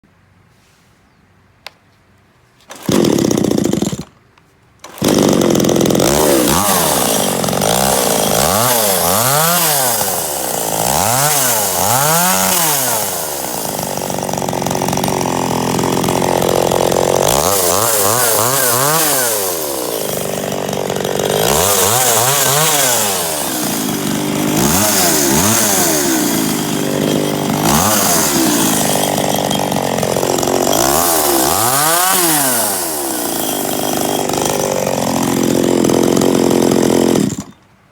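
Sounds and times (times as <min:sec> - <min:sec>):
chainsaw starting and revving: 0:02.7 - 0:04.2, 0:04.8 - 0:37.7.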